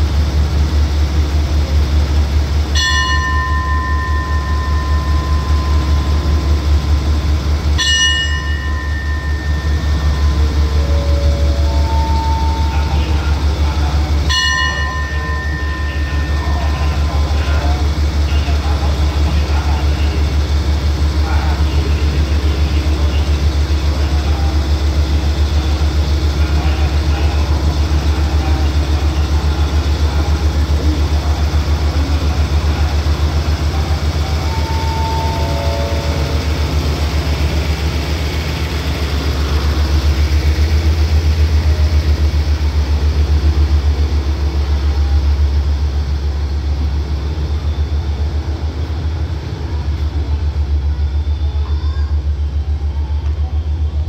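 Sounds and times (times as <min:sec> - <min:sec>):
train diesel engine humming: 0:00.0 - 0:54.0.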